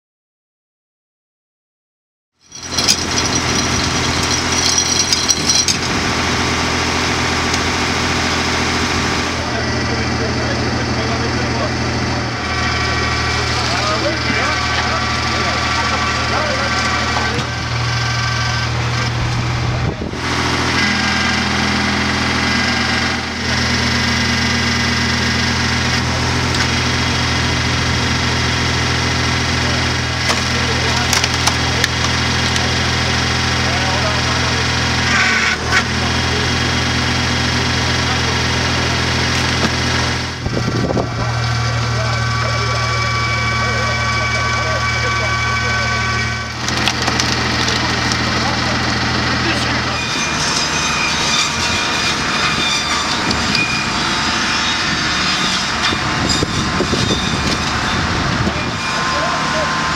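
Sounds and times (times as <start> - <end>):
tractor engine running: 2.4 - 59.9.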